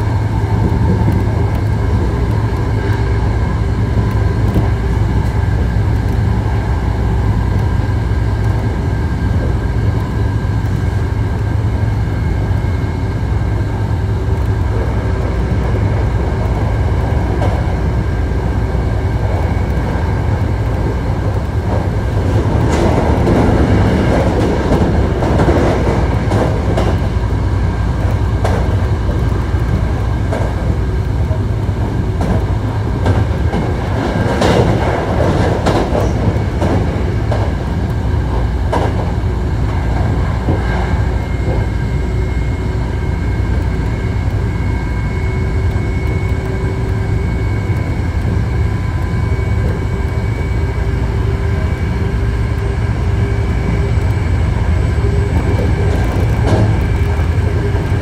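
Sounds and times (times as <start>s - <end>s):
constant whining tones: 0.0s - 58.0s
rail clicks: 0.0s - 58.0s
train wheels rumbling on rail: 0.0s - 58.0s.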